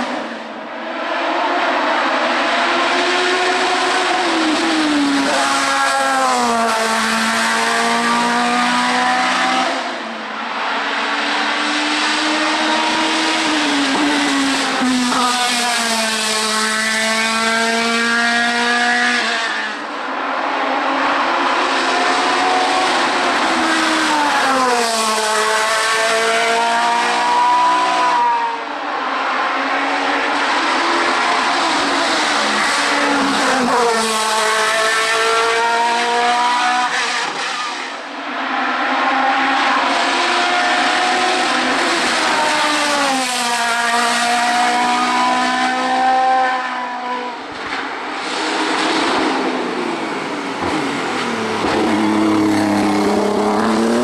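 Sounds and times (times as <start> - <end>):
race car engines revving high: 0.0 - 54.0.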